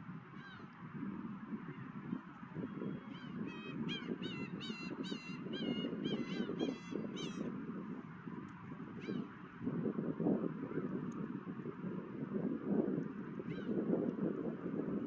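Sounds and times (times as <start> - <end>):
low rush of wind: 0.0 - 15.0.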